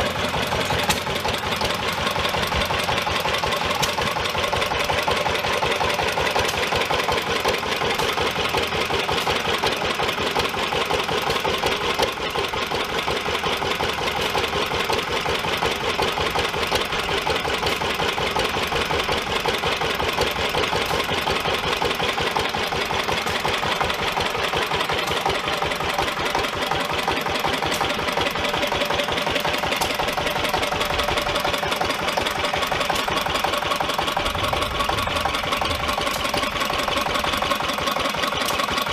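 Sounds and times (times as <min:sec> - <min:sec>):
stationary gas engines clattering: 0:00.0 - 0:38.9.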